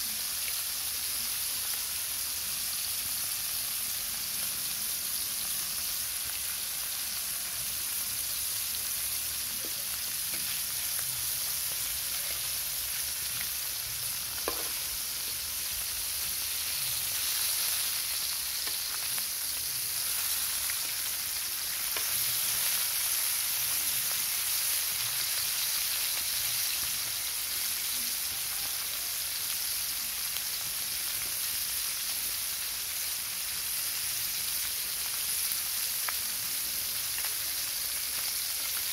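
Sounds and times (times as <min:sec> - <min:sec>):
fish sizzling in hot oil: 0:00.0 - 0:38.9.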